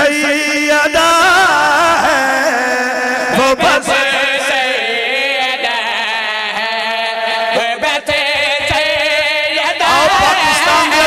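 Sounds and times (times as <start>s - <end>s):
man chanting through microphone: 0.0s - 11.0s.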